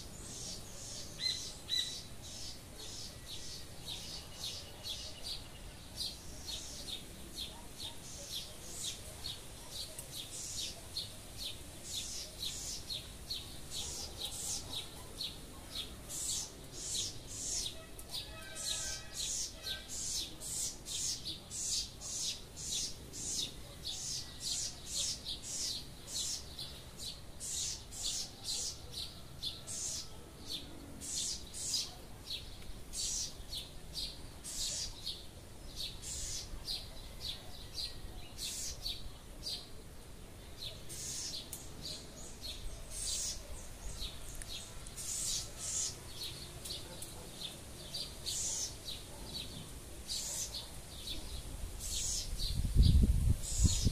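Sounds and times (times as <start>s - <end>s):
wren chirping: 0.0s - 39.7s, 40.5s - 53.9s.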